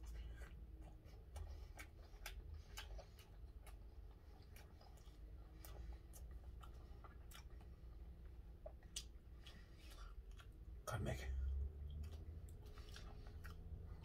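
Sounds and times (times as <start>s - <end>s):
man chewing with mouth clicks: 0.0s - 14.0s.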